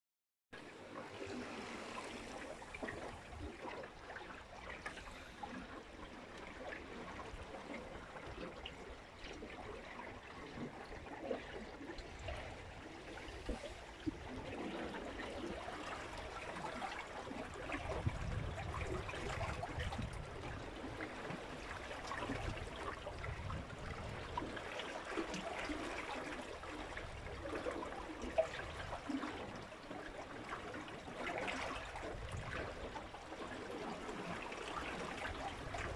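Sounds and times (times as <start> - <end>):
water splashing along a hull: 0.6 - 35.9.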